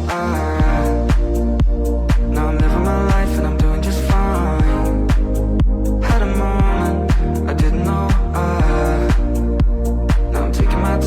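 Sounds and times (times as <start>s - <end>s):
pop song with singing: 0.0s - 11.0s.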